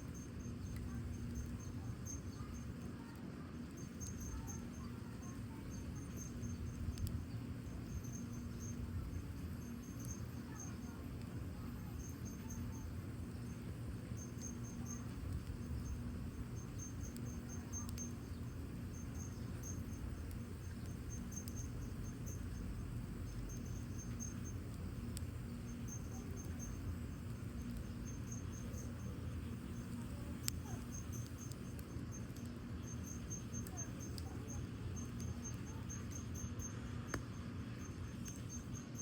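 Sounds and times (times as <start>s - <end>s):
crickets chirping: 0.0s - 39.0s
fire crackling: 0.0s - 39.0s
low steady rumble: 0.0s - 39.0s.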